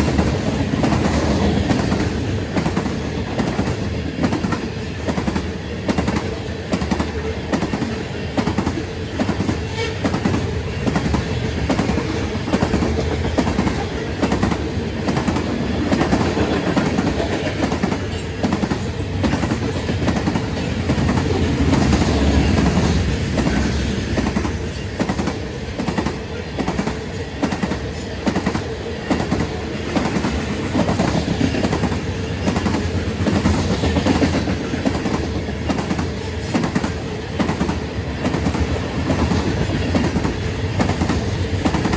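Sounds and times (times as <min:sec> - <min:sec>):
freight train rolling noise: 0:00.0 - 0:41.9
train wheels clicking over rail joints: 0:00.0 - 0:41.9.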